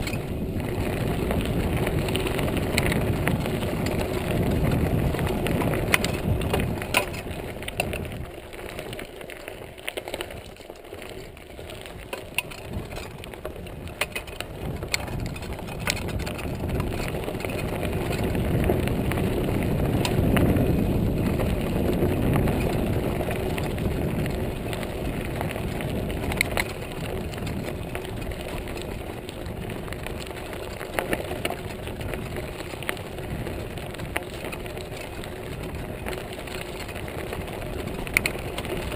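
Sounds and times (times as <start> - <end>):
bike clicking and rattling: 0.0 - 38.9
bike tyres crunching on gravel: 0.0 - 38.9.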